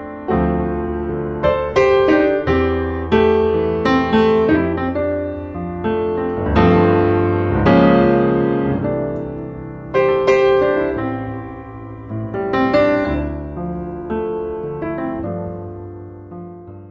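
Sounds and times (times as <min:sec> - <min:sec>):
piano chords ringing: 0:00.0 - 0:16.9.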